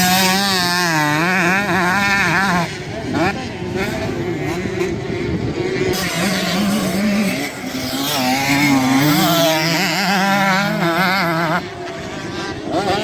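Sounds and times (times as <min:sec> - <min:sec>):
motocross engines revving: 0:00.0 - 0:13.0.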